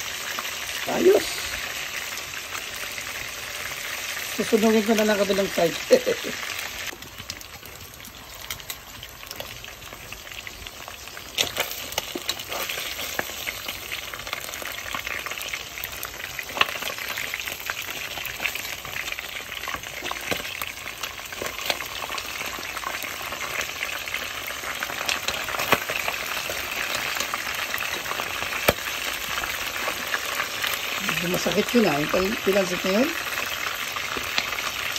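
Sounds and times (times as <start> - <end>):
fish deep-frying in oil: 0.0 - 34.9.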